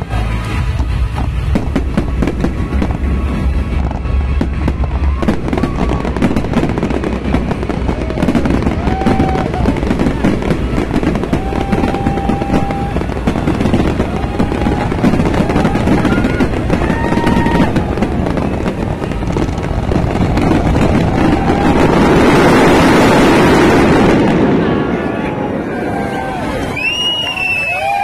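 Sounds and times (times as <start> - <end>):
fireworks crackling and booming: 0.0 - 28.0
firework whistles: 1.6 - 24.3, 26.6 - 28.0.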